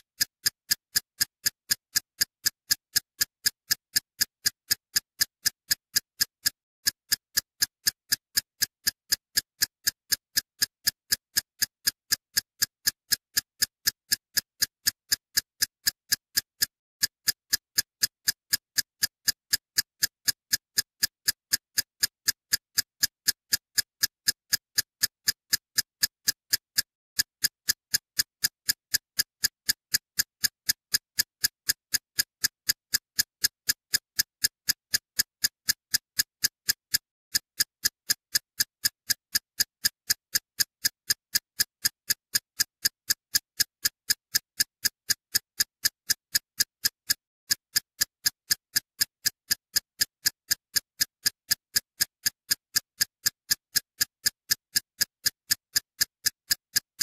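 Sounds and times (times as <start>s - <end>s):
steady sharp ticking: 0.0s - 57.0s.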